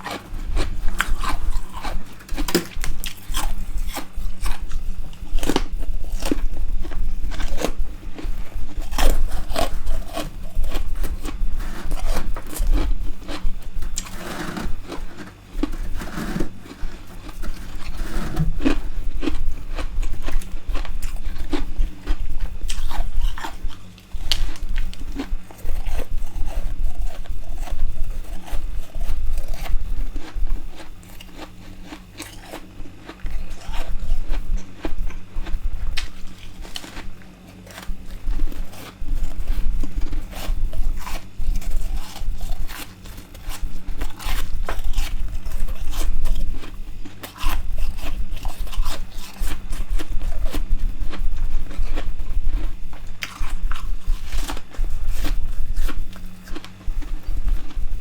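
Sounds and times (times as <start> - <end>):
crisp chewing crunches: 0.0 - 58.0.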